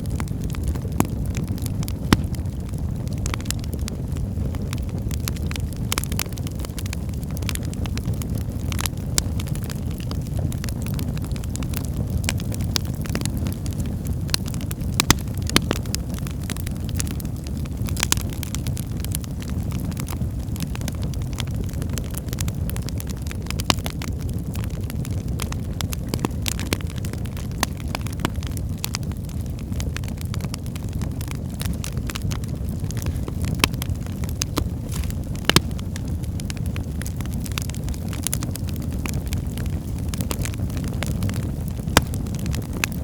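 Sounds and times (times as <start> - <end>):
fire rumbling: 0.0 - 43.0
wood fire crackles and pops: 0.0 - 43.0.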